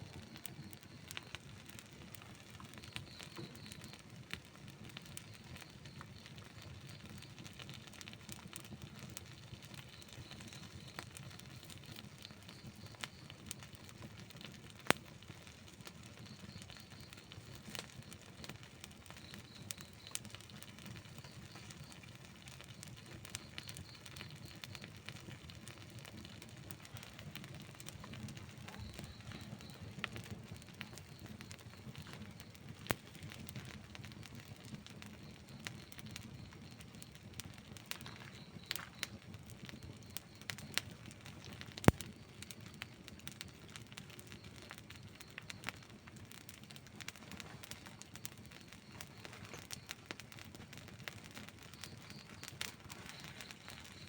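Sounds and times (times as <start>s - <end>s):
burning wood crackling and popping: 0.0s - 54.0s
campfire flames rumbling: 0.0s - 54.0s.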